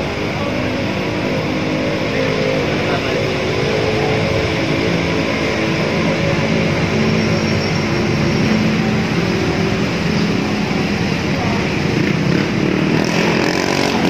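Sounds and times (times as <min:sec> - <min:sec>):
motor vehicle engine running: 0:00.0 - 0:14.0.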